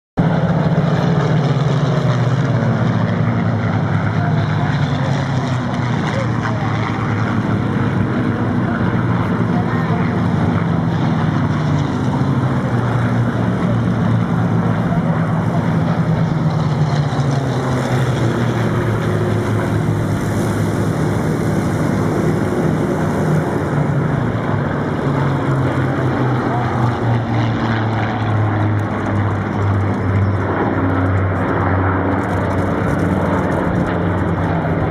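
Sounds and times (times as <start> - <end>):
propeller plane engines droning: 0.2 - 34.9.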